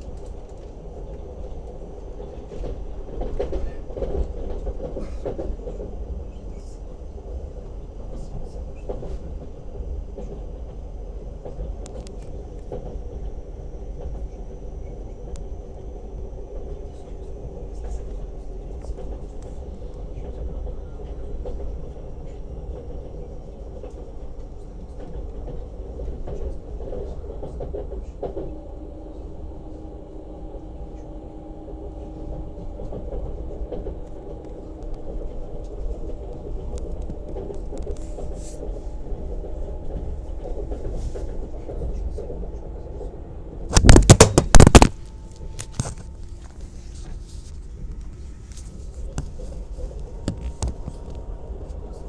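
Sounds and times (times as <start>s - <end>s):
electric train rumble: 0.0s - 52.0s.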